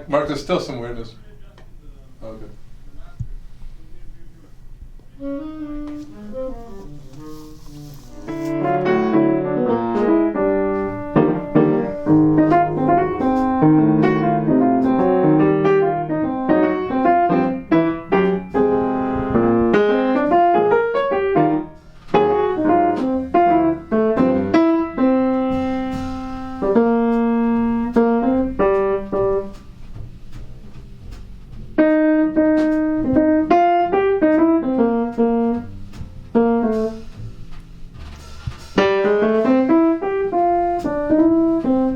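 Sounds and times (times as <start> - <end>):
jazz piano: 0.0 - 41.9.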